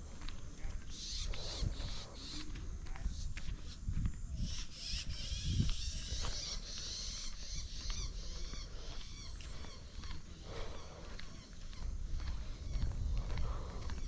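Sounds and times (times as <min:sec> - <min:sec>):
birds chirping: 0:00.0 - 0:14.0
footsteps on a trail: 0:00.0 - 0:14.0.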